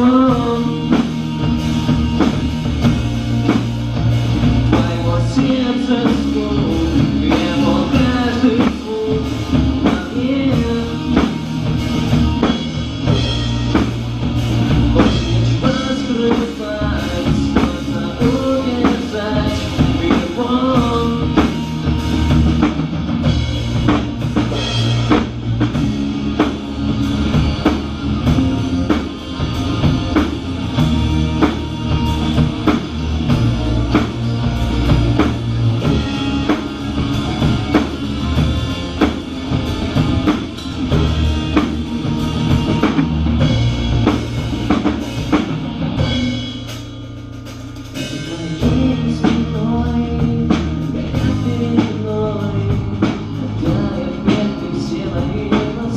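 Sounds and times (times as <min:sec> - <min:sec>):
drum kit beat: 0:00.0 - 0:55.9
rock band playing: 0:00.0 - 0:55.9.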